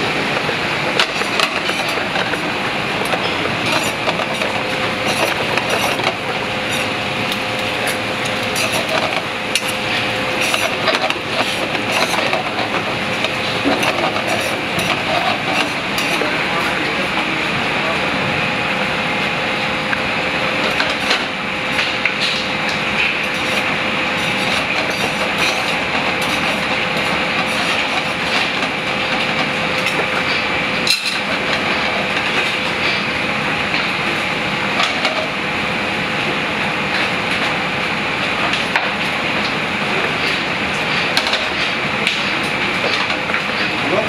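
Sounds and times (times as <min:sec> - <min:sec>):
kitchen ventilation hum: 0:00.0 - 0:44.0.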